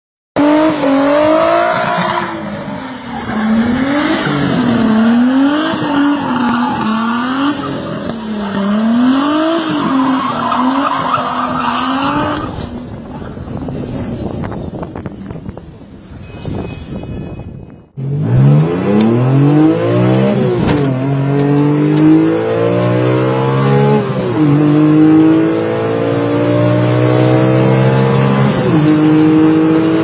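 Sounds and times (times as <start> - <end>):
car engine revving: 0.4 - 14.5, 17.9 - 30.0.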